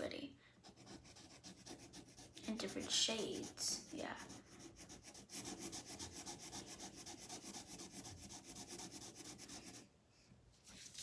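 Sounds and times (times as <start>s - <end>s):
marker scribbling on paper: 0.6s - 9.8s.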